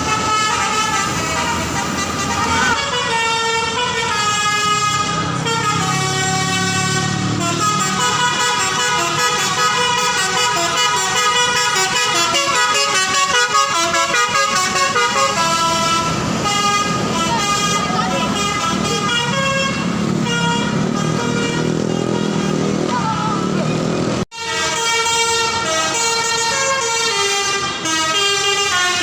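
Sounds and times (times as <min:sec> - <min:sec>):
multi-tone bus horn melody: 0:00.0 - 0:29.0.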